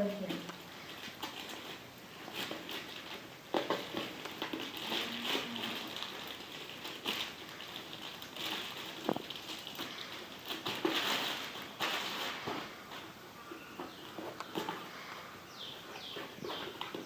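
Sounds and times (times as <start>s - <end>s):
packaging crinkling and rustling: 0.3s - 17.0s.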